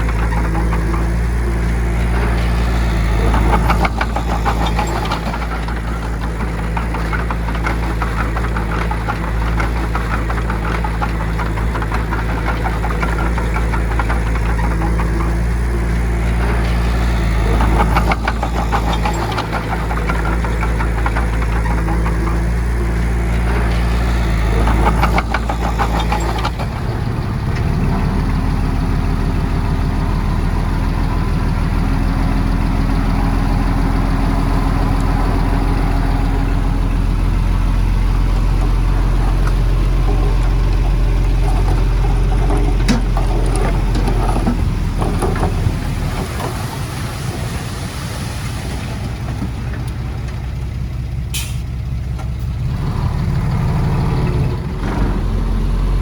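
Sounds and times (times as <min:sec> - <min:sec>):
rattling clatter: 0:00.0 - 0:31.2, 0:31.8 - 0:55.3
diesel engine running: 0:00.0 - 0:56.0.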